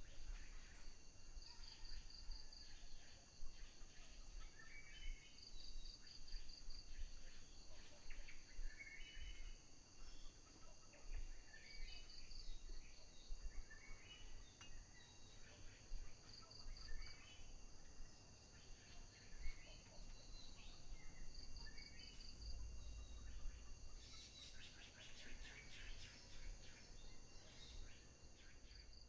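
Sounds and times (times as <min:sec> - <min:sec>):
insect pulsed trill: 0:00.0 - 0:29.0
insects droning: 0:00.0 - 0:29.0.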